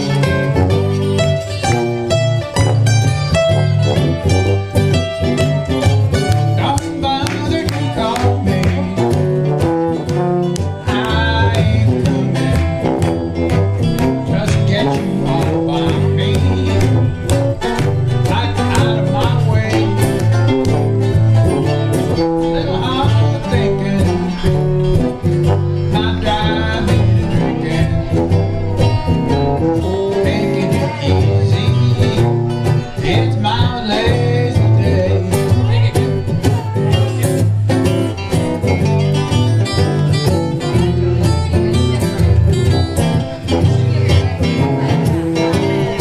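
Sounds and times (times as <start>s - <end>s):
banjo picking: 0.0s - 46.0s
guitar picking: 0.0s - 46.0s
steady bass line: 0.0s - 46.0s.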